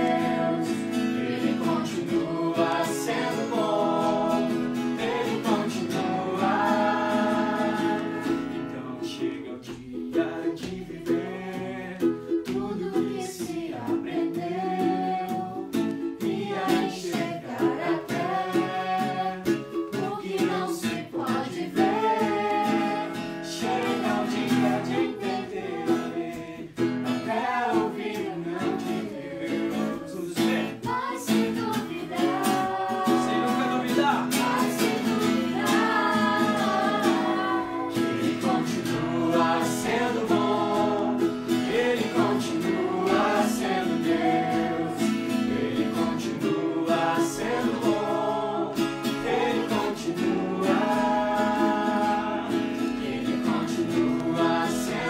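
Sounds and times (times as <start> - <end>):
person singing: 0.0 - 55.0
strummed acoustic strings: 0.0 - 55.0.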